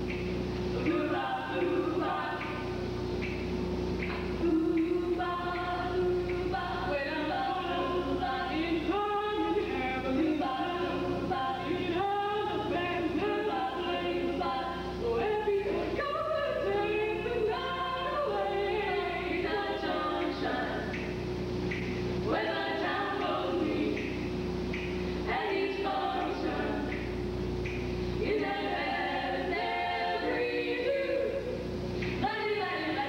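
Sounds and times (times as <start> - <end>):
low electrical hum: 0.0 - 33.0
choir singing in harmony: 0.8 - 2.7, 4.5 - 21.0, 22.2 - 24.1, 25.2 - 27.1, 28.2 - 33.0.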